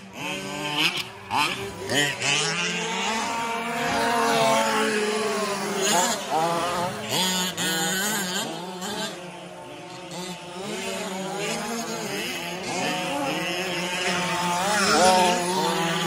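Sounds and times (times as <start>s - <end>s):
rc truck motors whining: 0.0s - 16.0s.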